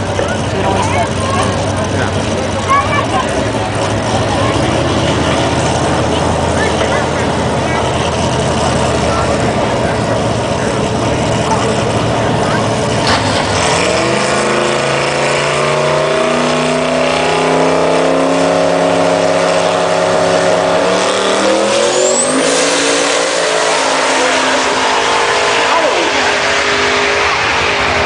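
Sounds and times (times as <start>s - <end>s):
truck engine running flat out: 0.0s - 28.0s.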